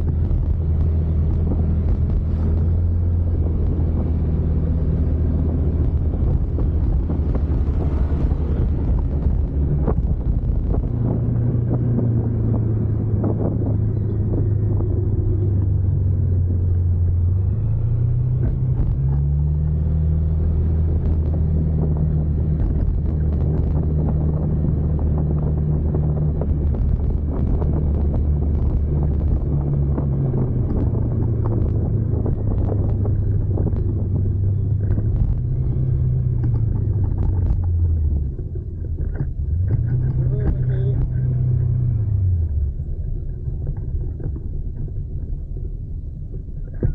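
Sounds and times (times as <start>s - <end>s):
vehicle engine revving while driving: 0.0s - 46.9s
wind on microphone: 0.0s - 46.9s.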